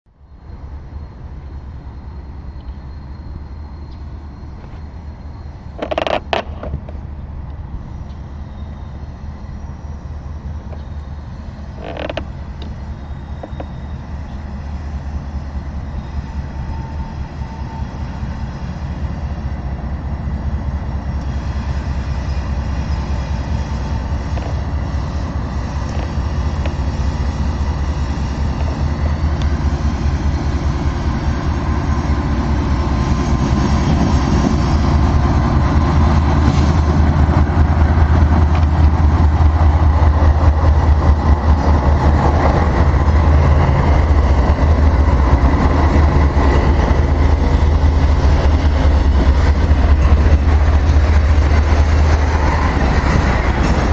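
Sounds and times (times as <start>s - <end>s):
diesel locomotive engines: 0.1s - 53.9s
train wheels rumbling on rails: 0.1s - 53.9s
freight cars creaking: 4.4s - 19.6s, 22.2s - 32.8s, 33.6s - 53.9s.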